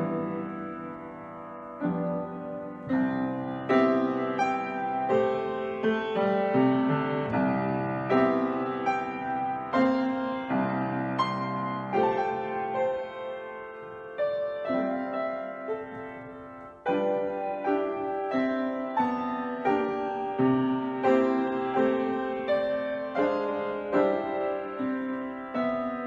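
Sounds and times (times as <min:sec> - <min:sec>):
upright piano chords: 0:00.0 - 0:26.0.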